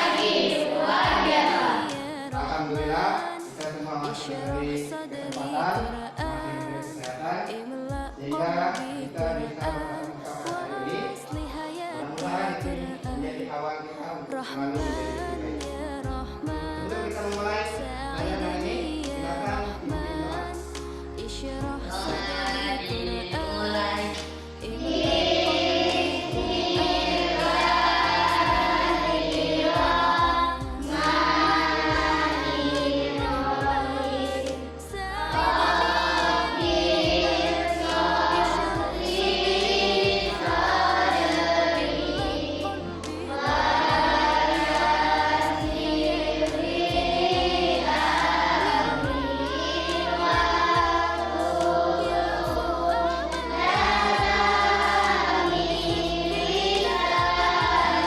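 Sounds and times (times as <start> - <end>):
children singing in unison: 0.0 - 58.0.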